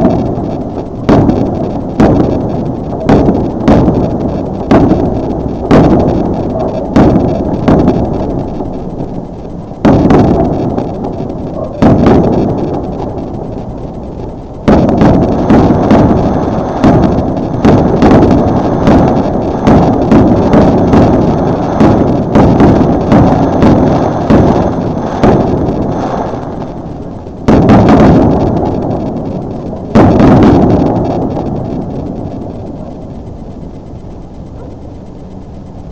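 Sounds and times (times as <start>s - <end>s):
fireworks booming: 0.0s - 35.9s.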